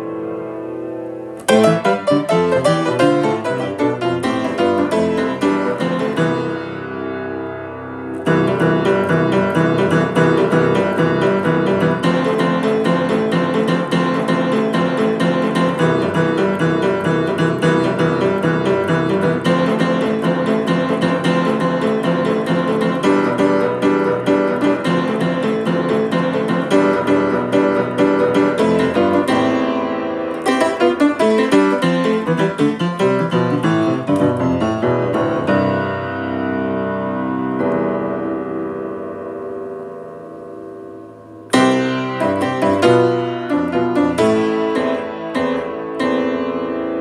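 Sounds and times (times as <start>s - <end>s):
lively piano piece: 0.0s - 47.0s.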